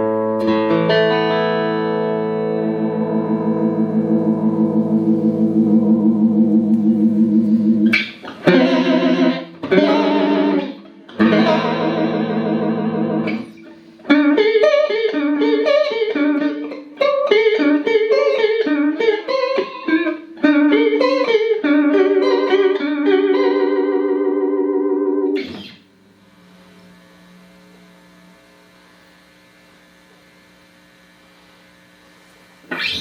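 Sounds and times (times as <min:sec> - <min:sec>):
clean electric guitar with chorus: 0:00.0 - 0:31.1, 0:32.6 - 0:33.0.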